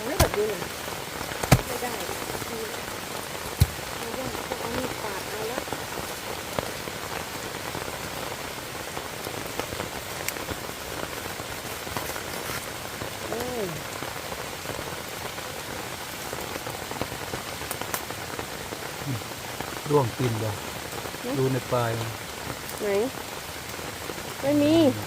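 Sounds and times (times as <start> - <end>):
close raindrops striking: 0.0 - 25.0
heavy rain on foliage: 0.0 - 25.0.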